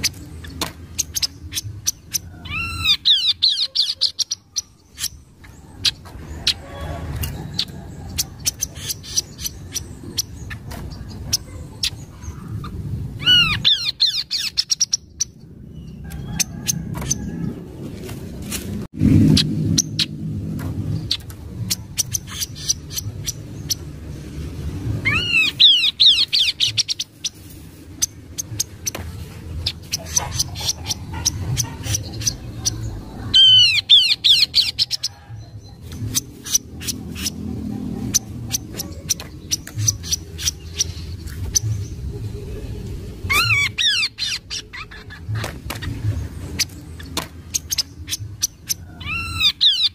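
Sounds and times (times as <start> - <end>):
low background rumble: 0.0 - 49.9.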